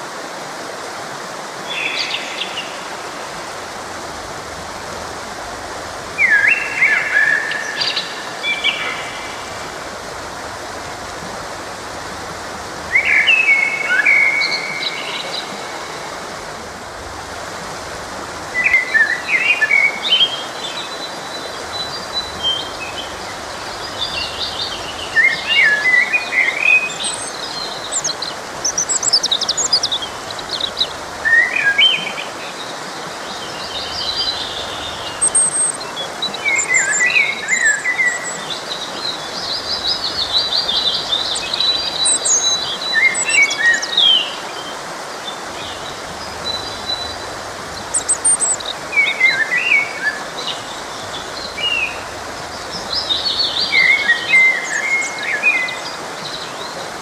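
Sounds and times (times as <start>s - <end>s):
stream rushing: 0.0s - 57.0s
songbirds singing: 1.6s - 57.0s.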